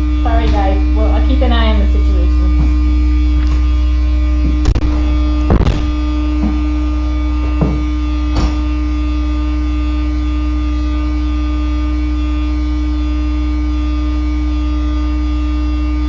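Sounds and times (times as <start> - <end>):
truck pump droning: 0.0 - 16.0.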